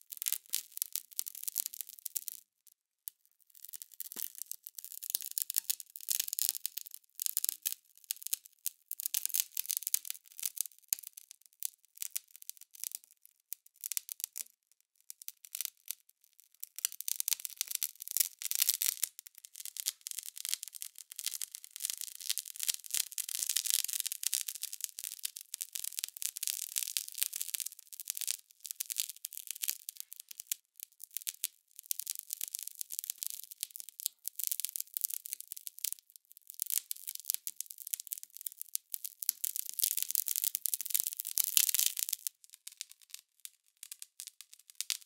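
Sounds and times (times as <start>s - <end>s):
high-pitched crackling and sizzling: 0.0s - 2.4s, 3.6s - 11.2s, 16.8s - 45.0s.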